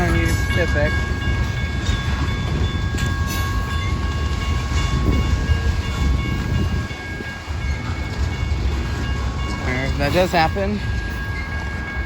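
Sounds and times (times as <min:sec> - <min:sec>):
freight train rumbling on rails: 0:00.0 - 0:12.0
high ringing tones: 0:00.0 - 0:12.0.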